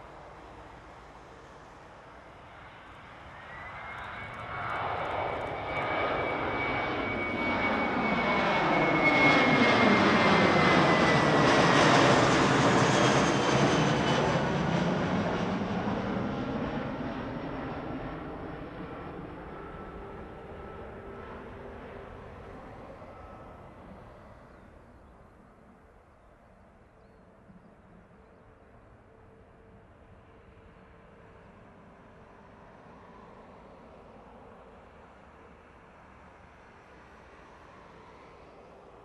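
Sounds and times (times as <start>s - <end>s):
jet engines roaring overhead: 0.0s - 26.4s, 27.3s - 39.0s.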